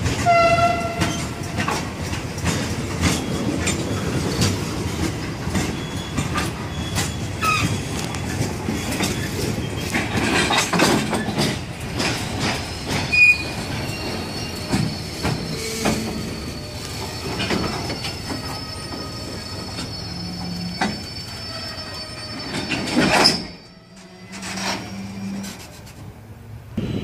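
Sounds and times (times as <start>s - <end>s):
wheels clacking over rail joints: 0.0s - 26.1s
high wheel squeal: 3.0s - 26.0s.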